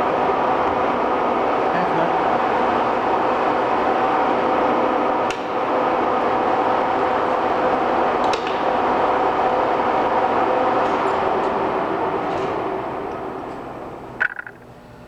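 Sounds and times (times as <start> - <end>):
lathe gear hum and whine: 0.0 - 15.0.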